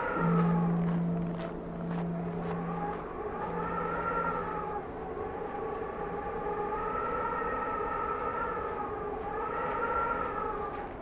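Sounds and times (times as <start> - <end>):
wind howling: 0.0 - 11.0.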